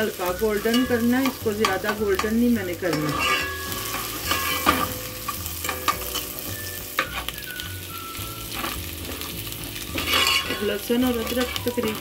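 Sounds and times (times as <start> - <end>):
paste sizzling in oil: 0.0 - 12.0
metal spoon scraping pan: 0.3 - 7.4, 8.4 - 12.0.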